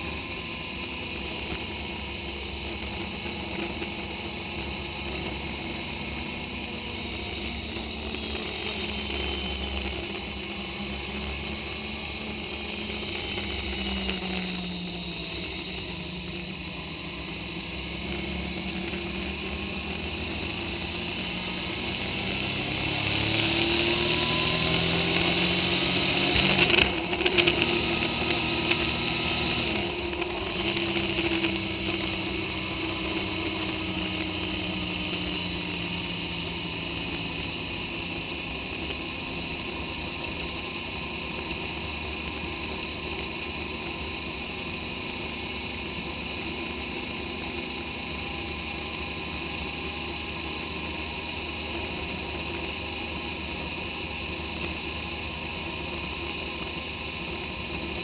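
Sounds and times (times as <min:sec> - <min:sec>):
motorcycle engine running: 0:00.0 - 0:58.0
wind and tyre noise: 0:00.0 - 0:58.0.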